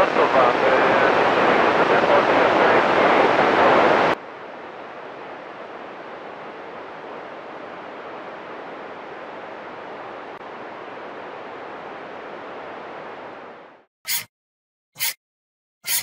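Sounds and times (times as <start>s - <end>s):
radio static hiss: 0.0s - 13.4s.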